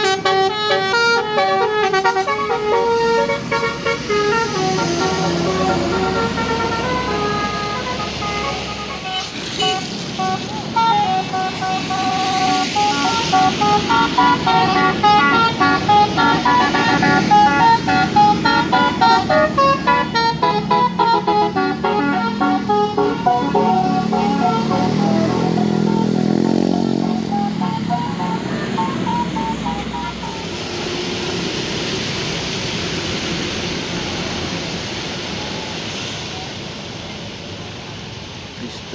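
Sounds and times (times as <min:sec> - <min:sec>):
bus horn playing melody: 0:00.0 - 0:32.2
vehicle engine rumbling: 0:00.0 - 0:38.5
passing traffic road noise: 0:00.0 - 0:38.9.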